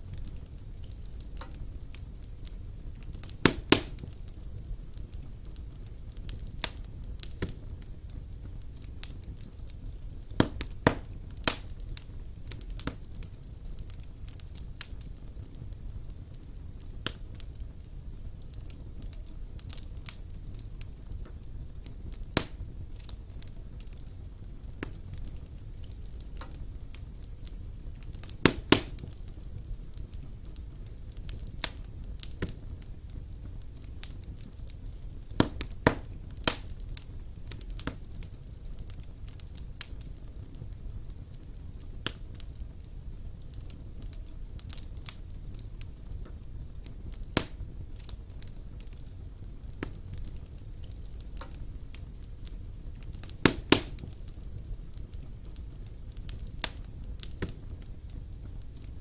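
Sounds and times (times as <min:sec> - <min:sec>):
fire rumbling: 0:00.0 - 0:59.0
logs crackling and popping: 0:00.0 - 0:59.0.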